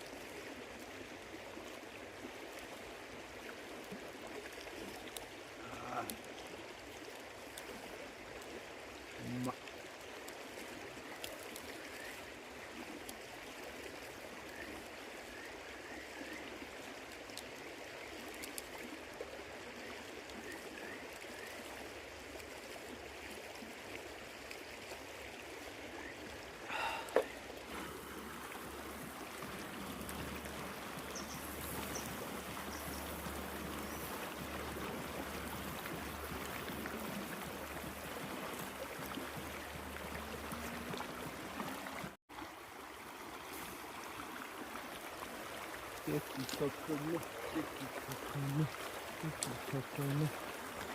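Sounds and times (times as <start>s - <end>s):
river water running: 0.0s - 50.9s.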